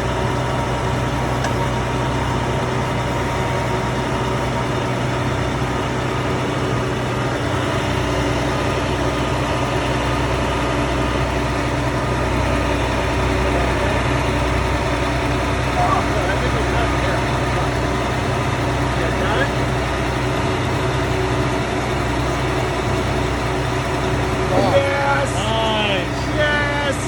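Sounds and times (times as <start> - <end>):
drilling rig engine running: 0.0 - 27.0.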